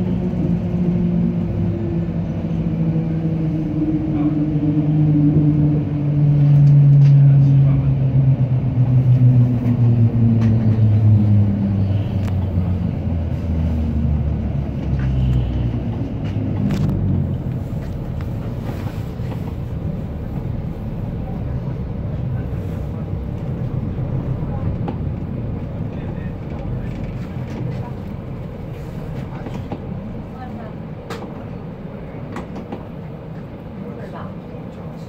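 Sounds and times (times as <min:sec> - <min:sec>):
train drive hum: 0:00.0 - 0:35.0.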